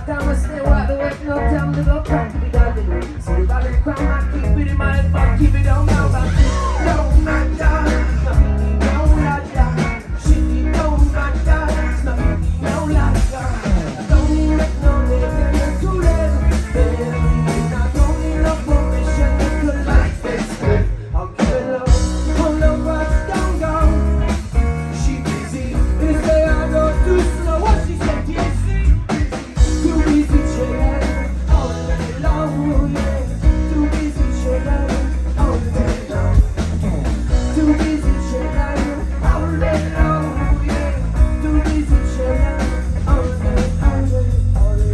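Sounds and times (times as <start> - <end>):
rock blues band playing: 0.0 - 44.9.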